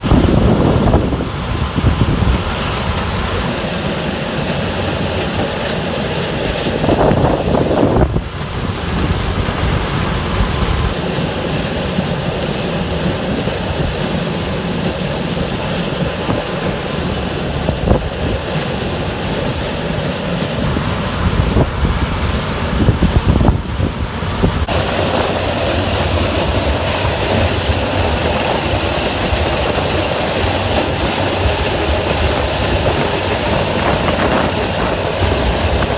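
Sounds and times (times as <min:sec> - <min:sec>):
harvesting machinery running: 0:00.0 - 0:35.9
tractor diesel engine: 0:00.0 - 0:35.9.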